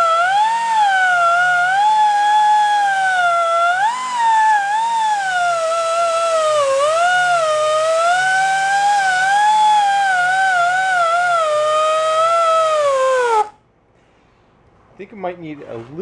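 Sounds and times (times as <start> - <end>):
die grinder high whine: 0.0 - 13.6.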